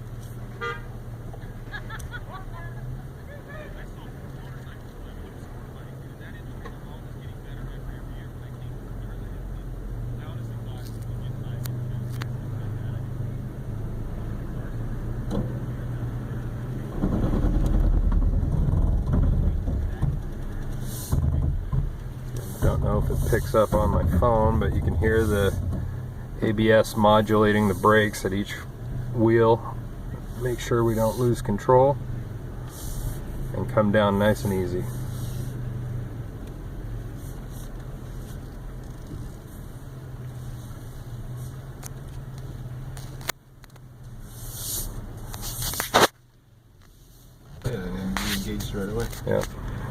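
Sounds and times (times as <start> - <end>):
rough low brake rumble: 0.0 - 49.9
truck engine hum: 0.0 - 49.9.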